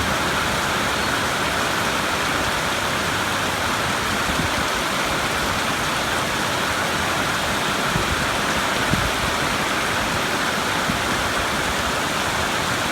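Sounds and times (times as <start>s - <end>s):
heavy rain: 0.0s - 12.9s.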